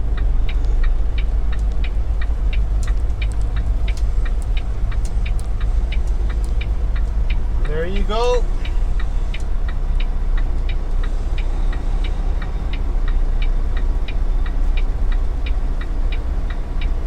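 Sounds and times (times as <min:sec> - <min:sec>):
diesel truck engine running: 0:00.0 - 0:17.0
flasher relay ticking: 0:00.0 - 0:17.0.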